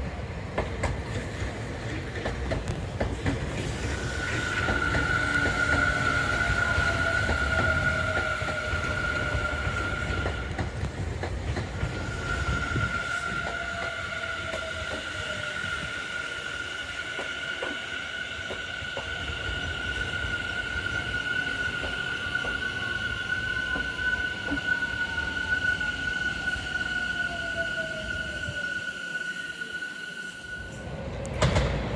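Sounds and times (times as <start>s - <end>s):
train cars rumbling: 0.0s - 31.9s
high squeal: 3.7s - 10.5s, 11.8s - 31.2s.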